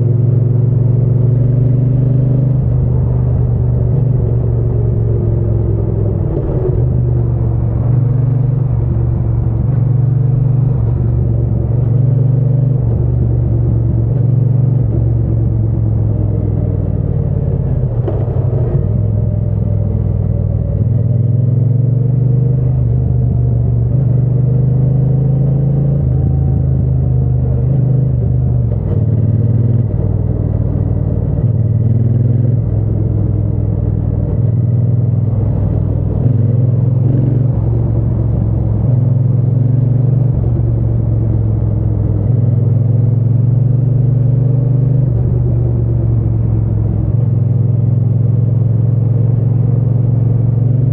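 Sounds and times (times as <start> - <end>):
motorcycle engine and exhaust rumbling: 0.0 - 50.9.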